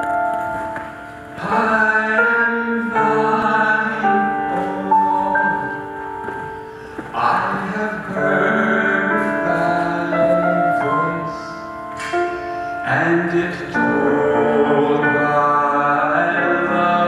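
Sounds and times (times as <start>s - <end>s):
man singing into microphone: 1.4s - 6.0s, 7.0s - 17.0s.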